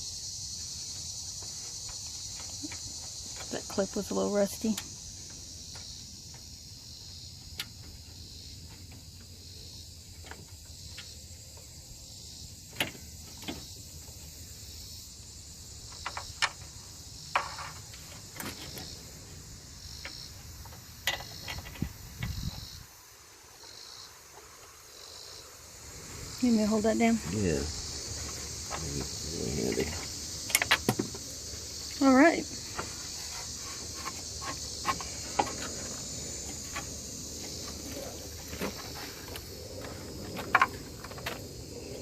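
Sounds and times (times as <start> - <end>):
crickets chirring: 0.0 - 42.0.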